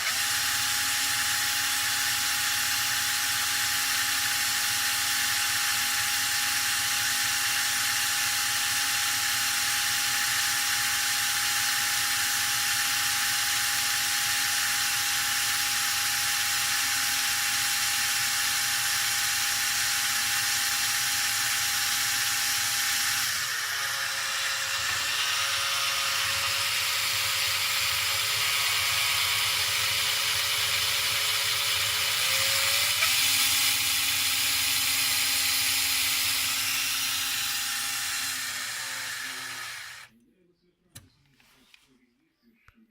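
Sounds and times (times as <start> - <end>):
small electric motor whirring: 0.0 - 40.1.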